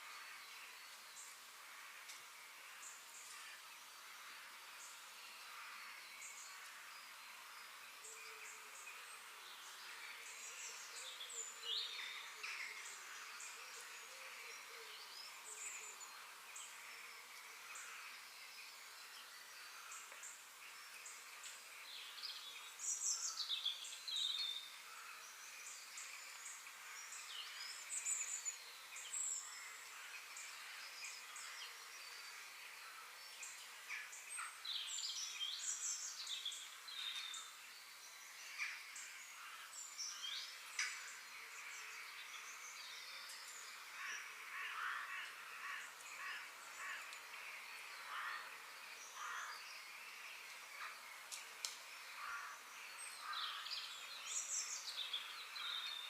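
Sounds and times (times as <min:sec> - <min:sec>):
outdoor hiss: 0:00.0 - 0:56.0
birds chirping: 0:02.2 - 0:56.0.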